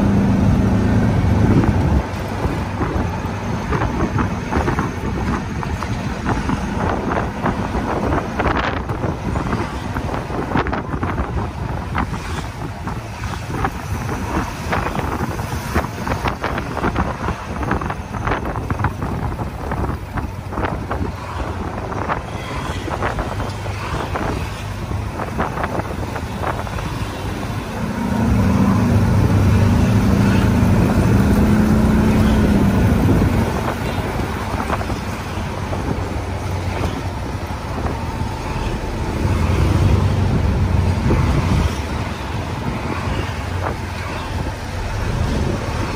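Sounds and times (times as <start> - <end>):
engine and road rumble: 0.0 - 45.9.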